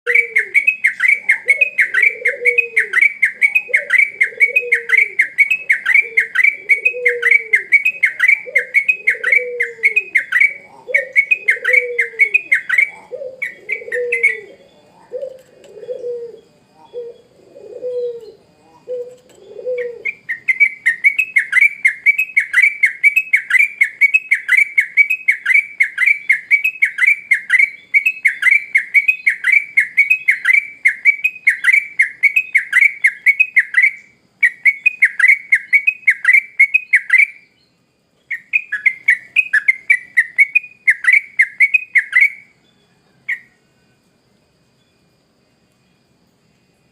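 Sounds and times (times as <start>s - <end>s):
bird repeating fast calls: 0.1s - 37.4s, 38.3s - 42.5s
lower falling bird notes: 0.1s - 46.9s.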